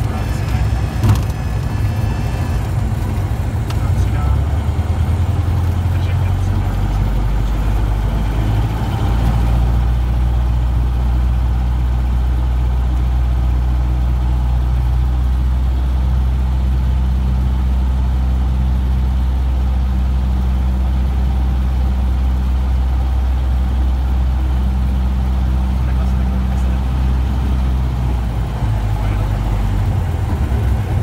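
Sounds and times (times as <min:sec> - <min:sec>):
aircraft piston engine running: 0:00.0 - 0:31.0.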